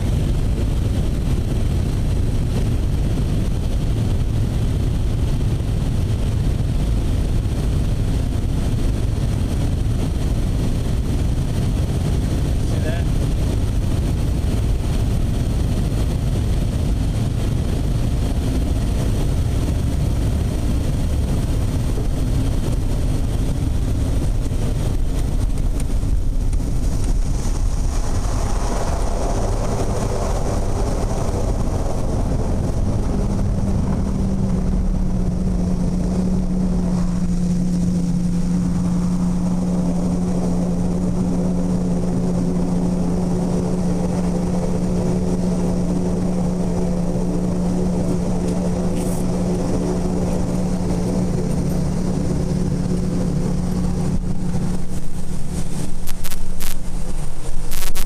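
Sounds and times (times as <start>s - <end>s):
propeller engine drone: 0.0s - 58.0s
water and wind rushing: 0.0s - 58.0s.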